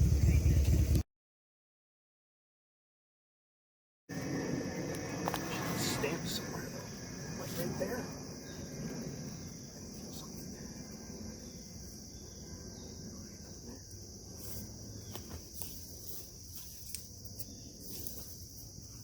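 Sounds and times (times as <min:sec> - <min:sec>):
crickets chirping: 0:00.0 - 0:01.0, 0:04.1 - 0:19.0.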